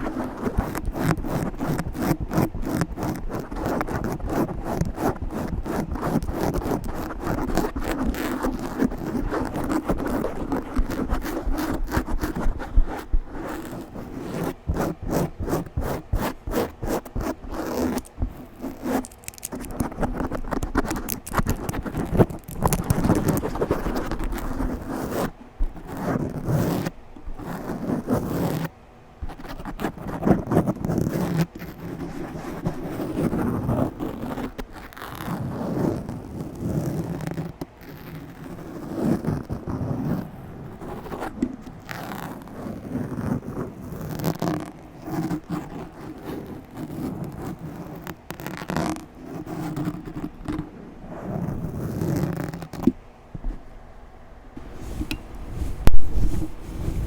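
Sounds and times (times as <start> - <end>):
scratching on a microphone: 0.0 - 53.7, 54.6 - 57.0.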